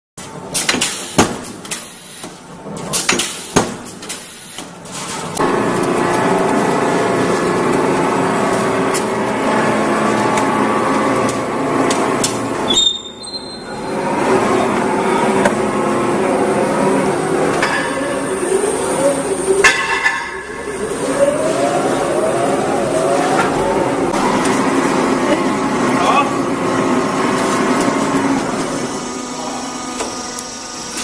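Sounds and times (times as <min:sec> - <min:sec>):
forming line running noise: 0:05.2 - 0:12.7, 0:13.7 - 0:31.0.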